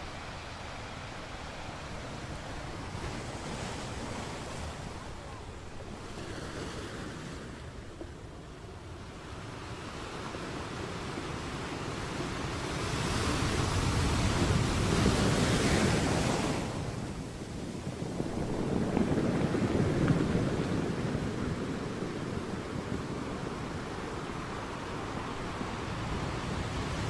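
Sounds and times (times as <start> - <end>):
sea waves breaking: 0.0 - 27.0.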